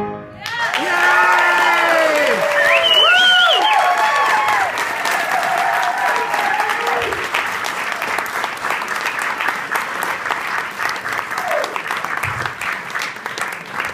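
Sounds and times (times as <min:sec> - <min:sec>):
audience applauding: 0:00.4 - 0:13.9.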